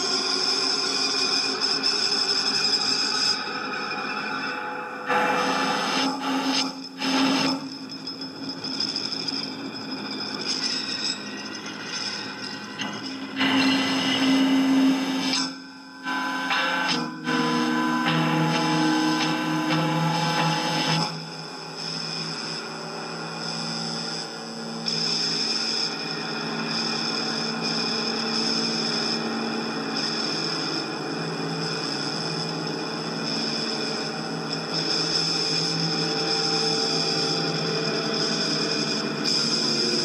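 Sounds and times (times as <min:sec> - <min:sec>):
electronic drone with held tones: 0:00.0 - 0:40.0.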